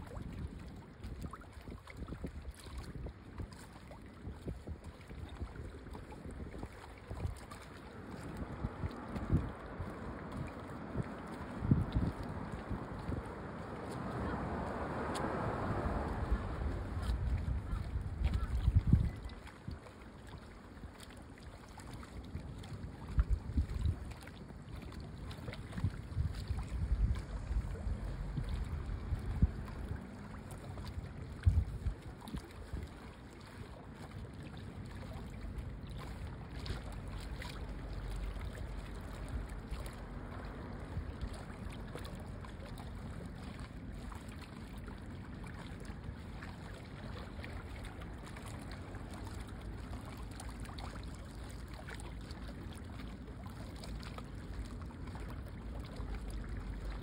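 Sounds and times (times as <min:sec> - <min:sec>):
wind buffeting microphone: 0:00.0 - 0:20.6, 0:21.3 - 0:53.7
rushing water at seaside: 0:00.0 - 0:57.0.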